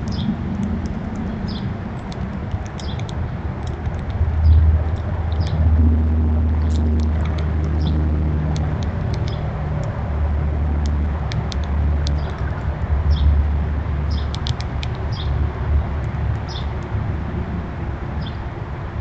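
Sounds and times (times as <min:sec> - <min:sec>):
sharp clicks: 0:00.0 - 0:13.4, 0:14.0 - 0:17.0
steady low rumble: 0:00.0 - 0:19.0.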